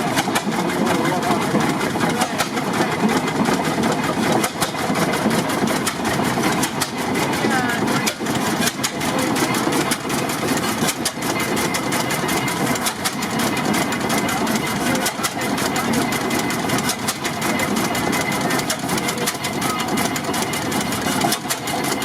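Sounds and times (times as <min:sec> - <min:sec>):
tractor engine clattering: 0:00.0 - 0:22.0.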